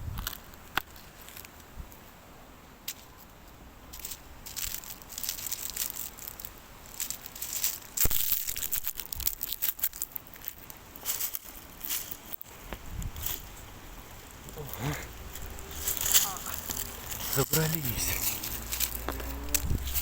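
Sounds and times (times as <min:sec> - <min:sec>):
crunching and scraping footsteps: 0:02.9 - 0:20.0.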